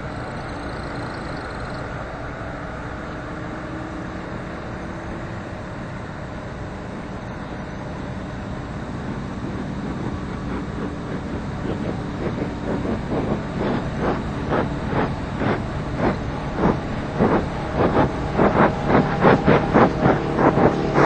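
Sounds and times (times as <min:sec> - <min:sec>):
faint low hum: 0:00.0 - 0:21.0
shuttle rolling rumble: 0:02.7 - 0:21.0.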